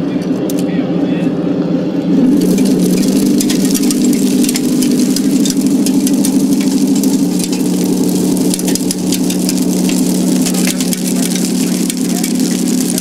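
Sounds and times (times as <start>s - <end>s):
model tank drive hum: 0.0s - 13.0s
tracks crackling over leaves: 2.1s - 13.0s.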